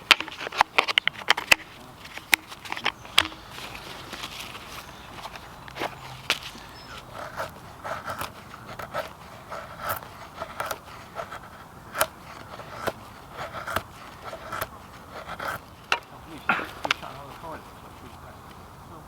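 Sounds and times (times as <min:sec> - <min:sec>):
wood scraping: 0:00.0 - 0:19.0.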